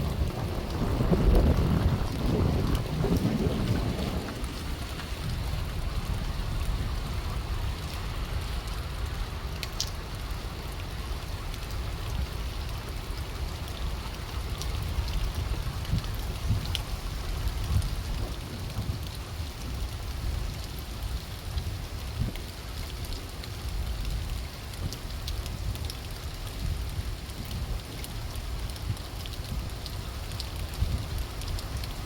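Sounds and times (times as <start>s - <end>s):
heavy rain falling: 0.0s - 32.0s
wind rumbling on microphone: 0.0s - 32.0s.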